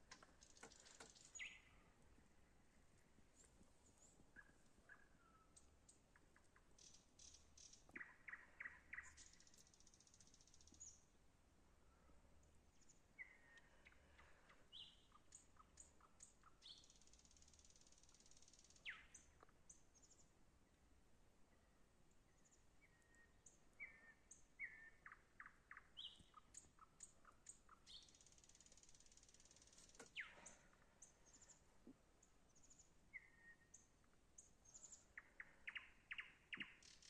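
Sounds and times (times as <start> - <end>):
small birds chirping: 0.0 - 11.2, 11.9 - 20.4, 21.6 - 37.0.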